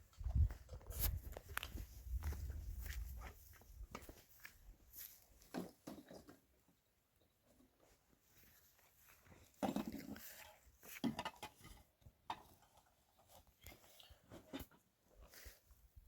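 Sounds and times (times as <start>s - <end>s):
small knocks and rustles: 0.1s - 6.5s, 7.5s - 15.6s.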